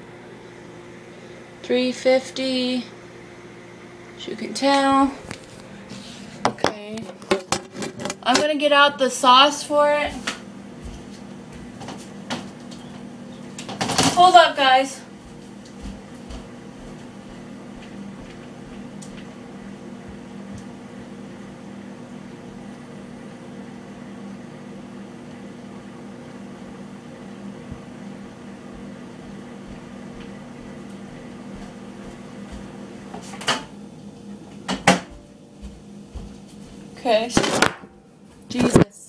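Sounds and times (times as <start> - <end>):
kitchen appliance humming: 0.0 - 39.0.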